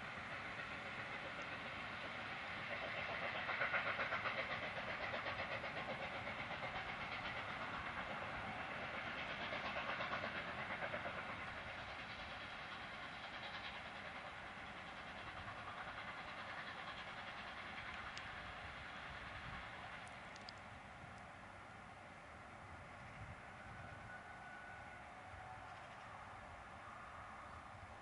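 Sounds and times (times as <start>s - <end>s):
steam train rumbling and clattering: 0.0s - 28.0s.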